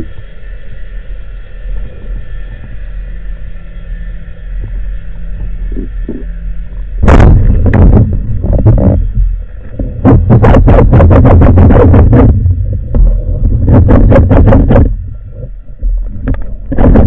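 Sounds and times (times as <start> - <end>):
underwater rumble: 0.0 - 17.0.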